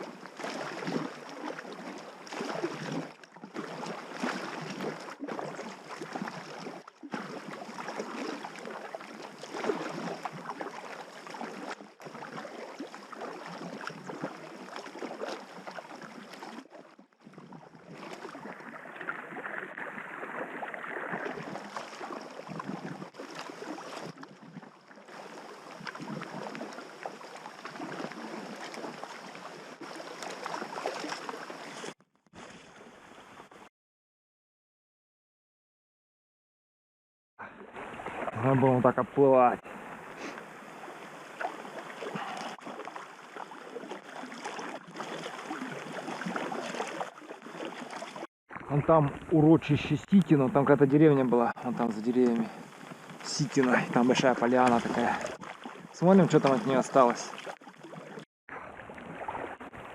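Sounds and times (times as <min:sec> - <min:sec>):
river water rushing and splashing: 0:00.0 - 0:16.7, 0:18.0 - 0:24.2, 0:24.9 - 0:33.2, 0:37.5 - 0:38.8, 0:39.7 - 0:48.3, 0:51.0 - 0:59.9.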